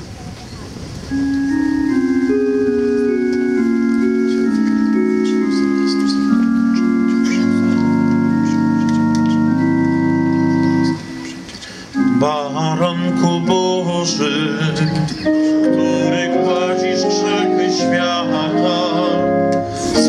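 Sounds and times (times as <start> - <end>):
organ playing sustained chords: 1.1 - 20.0.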